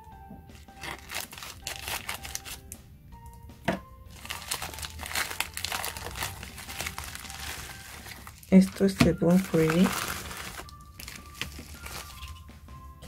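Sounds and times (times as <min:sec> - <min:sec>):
soft background music: 0:00.0 - 0:13.0
plastic envelope crinkling: 0:00.5 - 0:02.7, 0:04.1 - 0:12.5.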